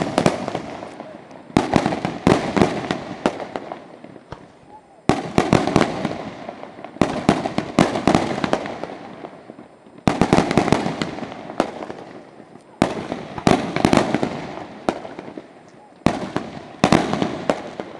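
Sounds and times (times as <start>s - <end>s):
firecrackers crackling: 0.0s - 17.9s.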